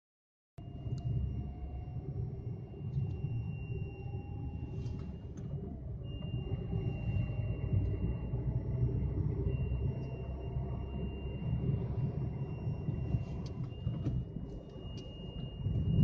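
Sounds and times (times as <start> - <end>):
high steady whistle: 0.6 - 16.0
low engine rumble: 0.6 - 16.0.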